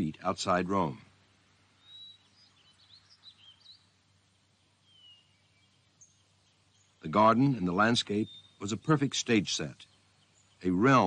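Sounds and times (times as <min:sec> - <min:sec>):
faint birdsong: 0:00.0 - 0:11.0
quiet hiss: 0:00.0 - 0:11.0.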